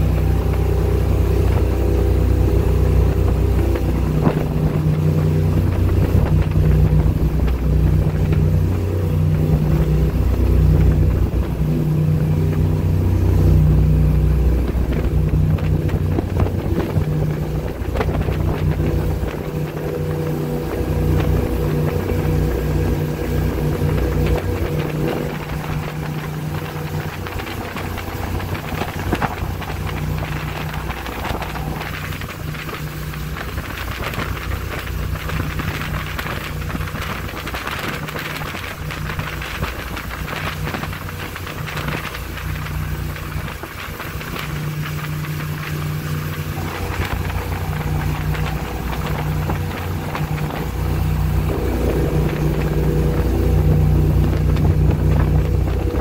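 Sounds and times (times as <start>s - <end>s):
boat engine drone: 0.0s - 56.0s
water rushing: 0.0s - 56.0s
wind on microphone: 0.0s - 56.0s.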